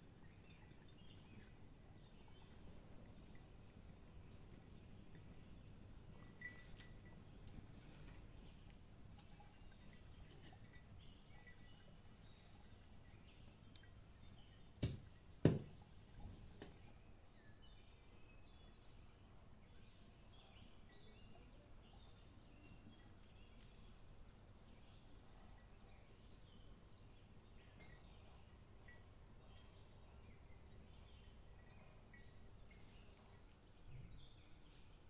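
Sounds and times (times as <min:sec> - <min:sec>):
faint birds chirping: 0:00.0 - 0:35.0.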